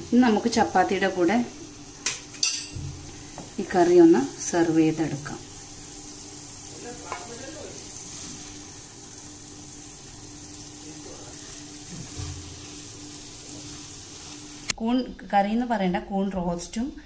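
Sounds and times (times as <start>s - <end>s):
food sizzling in a pan: 0.0s - 14.8s.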